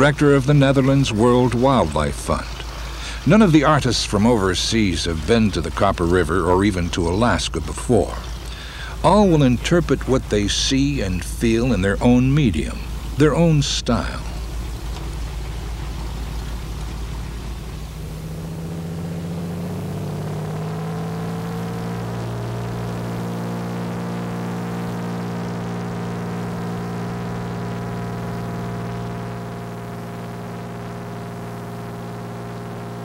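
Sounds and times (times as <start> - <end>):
floatplane engine droning: 0.0 - 33.0.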